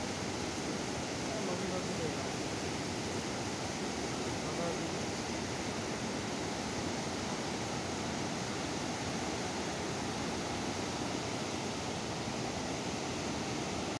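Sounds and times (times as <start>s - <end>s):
river rushing over rapids: 0.0s - 13.9s.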